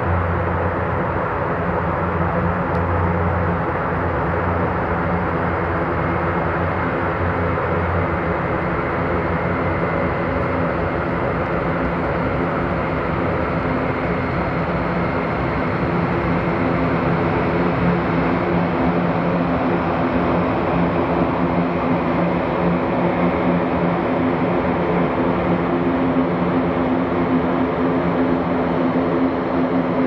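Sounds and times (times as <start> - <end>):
turboprop engines droning: 0.0 - 30.0.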